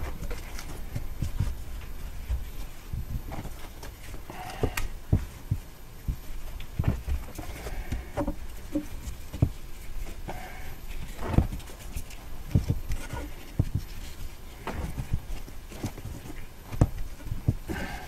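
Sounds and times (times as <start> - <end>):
handling knocks and thumps: 0.0 - 18.0.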